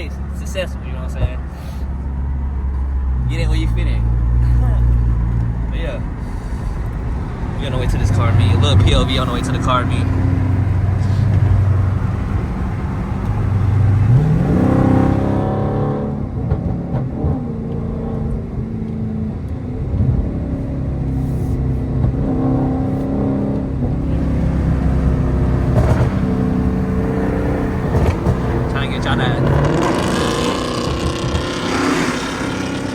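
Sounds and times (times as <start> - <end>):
car engine exhaust roar: 0.0 - 32.9.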